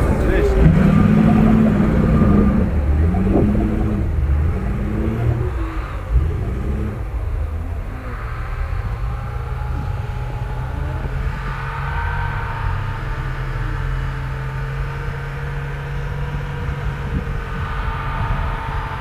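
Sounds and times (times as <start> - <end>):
truck engine droning under load: 0.0 - 19.0.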